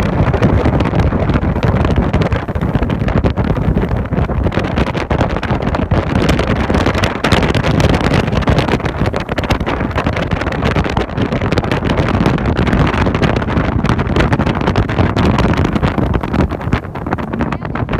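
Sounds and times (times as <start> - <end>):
boat engine: 0.0 - 17.9
water noise: 0.0 - 17.9
wind buffeting microphone: 0.0 - 17.9.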